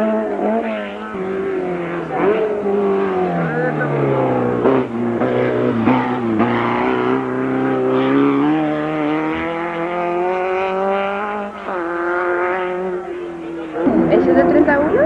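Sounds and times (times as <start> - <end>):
race car engine under load: 0.0 - 15.0.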